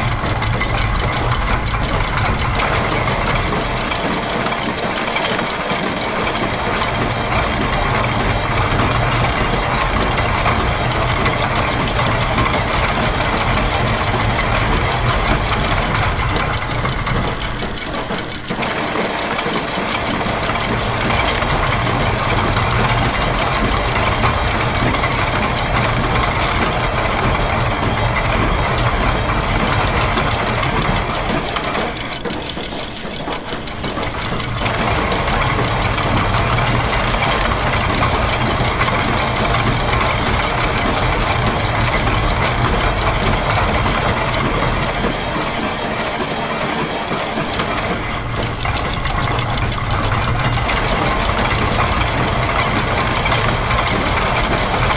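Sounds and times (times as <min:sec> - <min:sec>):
mechanical clicking: 0:00.0 - 0:54.9.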